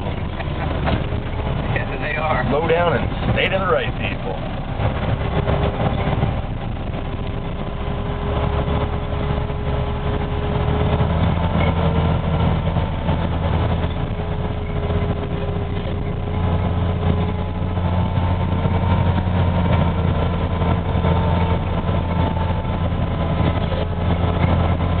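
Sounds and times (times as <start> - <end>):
snowcat engine drone: 0.0 - 25.0.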